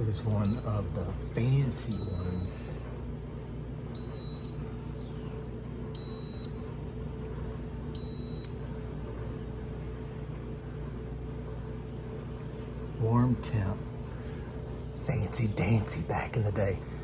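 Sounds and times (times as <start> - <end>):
refrigerator humming: 0.0 - 17.0.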